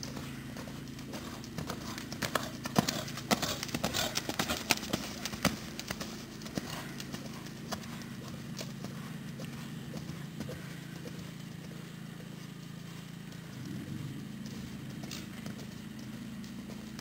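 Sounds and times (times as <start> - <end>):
pony hoofbeats on sand: 0.0 - 17.0.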